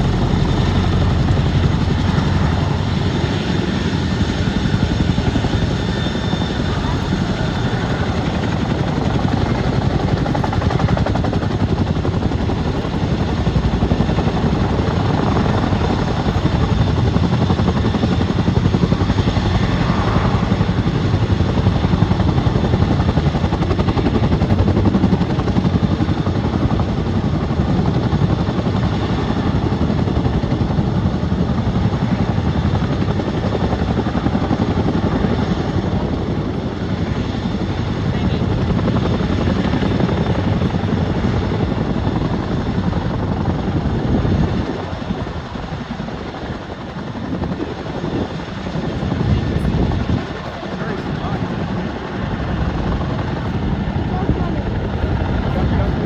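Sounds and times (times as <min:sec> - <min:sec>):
helicopter rotors and turbines: 0:00.0 - 0:56.0.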